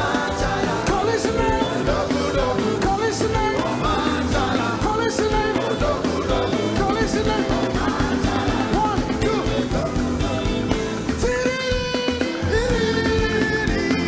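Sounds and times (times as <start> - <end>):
praise and worship music: 0.0 - 14.0.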